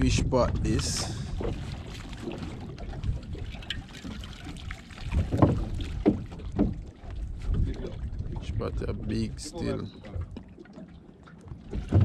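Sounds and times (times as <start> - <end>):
wind on microphone: 0.0 - 10.4
water sloshing around boat: 0.0 - 12.0.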